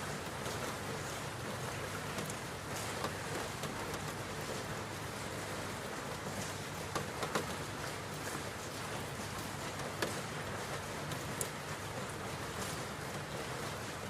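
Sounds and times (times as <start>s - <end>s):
raindrops ticking and pattering: 0.0s - 14.0s
steady rain hiss: 0.0s - 14.0s.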